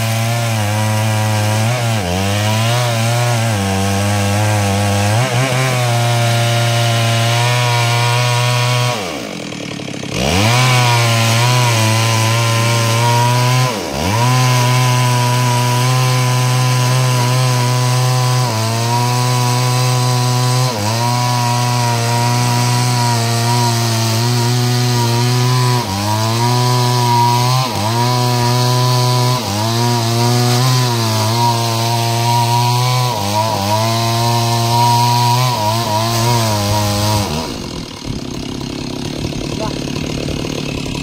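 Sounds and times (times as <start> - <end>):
chainsaw cutting log: 0.0 - 41.0.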